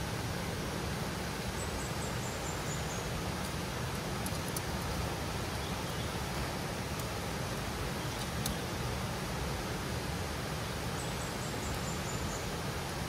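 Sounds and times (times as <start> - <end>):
river flowing over rocks: 0.0 - 13.0.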